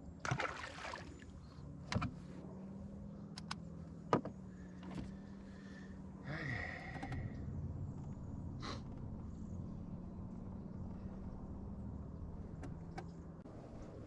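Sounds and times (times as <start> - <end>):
low electric motor hum: 0.0 - 14.0.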